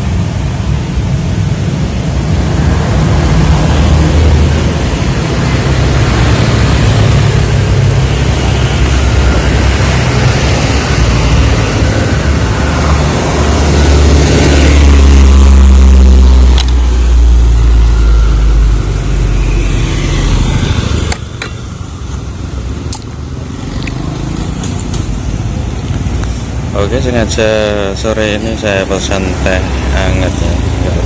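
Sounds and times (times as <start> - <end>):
road traffic: 0.0 - 31.0
vehicle engine passing by: 2.3 - 31.0.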